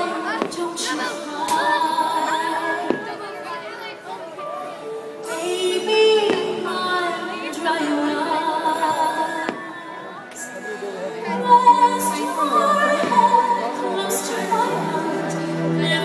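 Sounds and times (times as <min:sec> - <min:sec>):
orchestral music with singing: 0:00.0 - 0:16.0.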